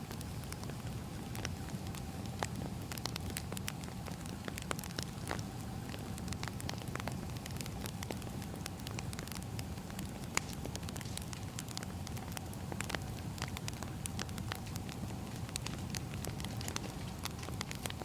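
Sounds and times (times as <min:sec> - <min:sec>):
firewood crackling: 0:00.0 - 0:18.0
steady low rumble: 0:00.0 - 0:18.0.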